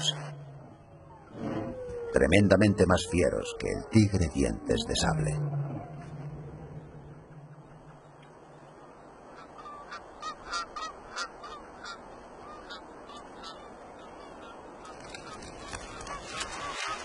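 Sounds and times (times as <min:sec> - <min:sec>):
bird calling: 0:00.0 - 0:17.0
steady background hiss: 0:00.0 - 0:17.0.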